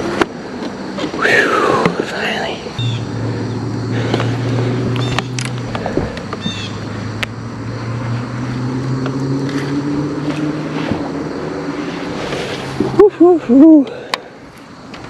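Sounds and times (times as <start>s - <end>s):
boat motor humming: 0.0s - 14.4s.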